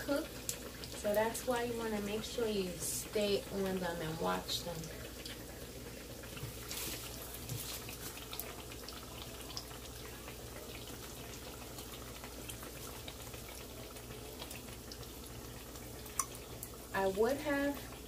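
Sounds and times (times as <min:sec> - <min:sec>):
oil bubbling and sizzling: 0:00.0 - 0:18.0.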